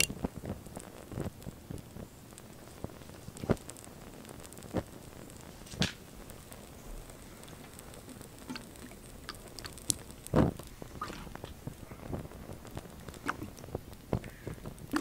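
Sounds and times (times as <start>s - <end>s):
small fire crackling and popping: 0.0s - 15.0s.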